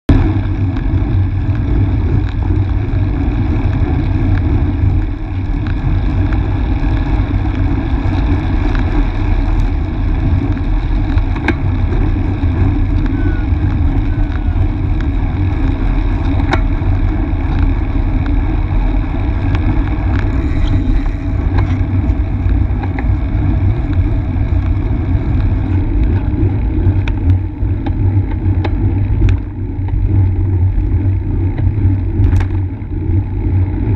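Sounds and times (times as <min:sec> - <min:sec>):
tyre and road noise: 0:00.1 - 0:33.9
wind rumble on microphone: 0:00.1 - 0:33.9.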